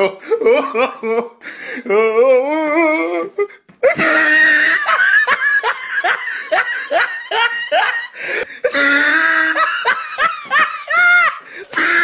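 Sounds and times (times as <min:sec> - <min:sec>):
person laughing high-pitched: 0:02.0 - 0:12.0.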